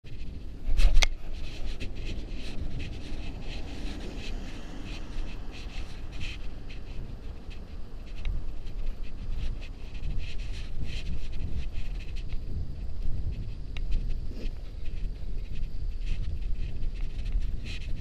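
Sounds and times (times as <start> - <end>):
wind and road rumble: 0.0 - 18.0
bicycle clicks and crackles: 0.1 - 18.0.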